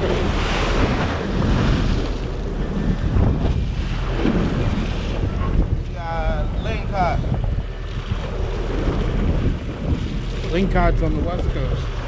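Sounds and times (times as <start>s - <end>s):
sea water splashing on hull: 0.0s - 12.0s
wind noise on microphone: 0.0s - 12.0s.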